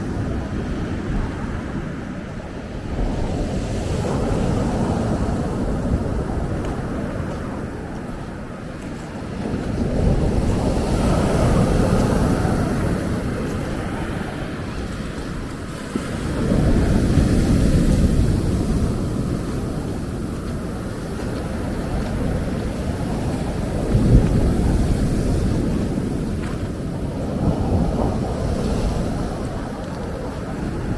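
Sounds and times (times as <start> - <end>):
ocean surf breaking: 0.0 - 30.9
wind buffeting microphone: 0.0 - 30.9.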